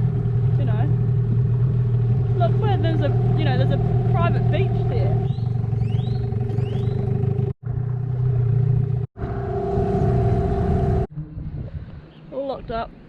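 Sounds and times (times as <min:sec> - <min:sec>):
outboard motor running: 0:00.0 - 0:11.2.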